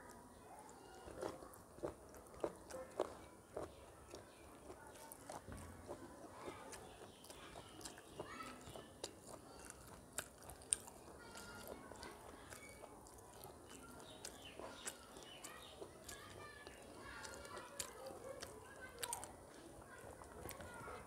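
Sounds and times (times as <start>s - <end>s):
chewing and wet mouth noises: 0.0s - 21.0s
fingers squishing food on plate: 0.0s - 21.0s.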